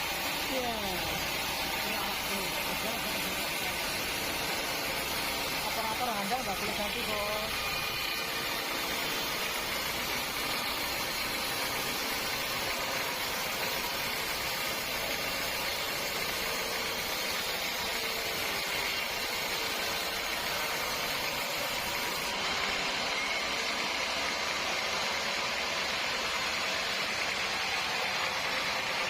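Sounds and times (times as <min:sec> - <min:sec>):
motor running with hiss: 0:00.0 - 0:29.0.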